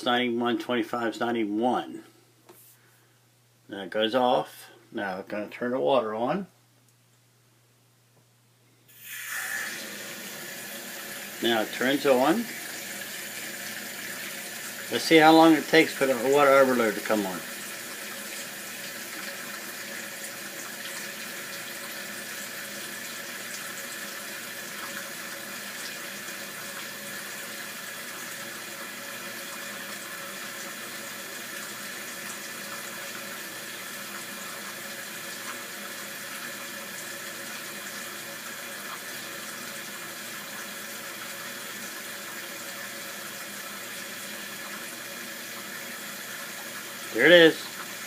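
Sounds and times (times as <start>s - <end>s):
faucet water pouring into sink: 8.9s - 48.0s.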